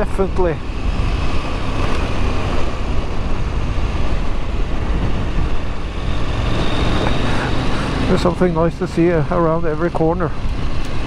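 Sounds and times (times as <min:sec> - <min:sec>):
wind noise on microphone: 0:00.0 - 0:08.8, 0:09.6 - 0:11.0
motorcycle engine: 0:00.0 - 0:11.0.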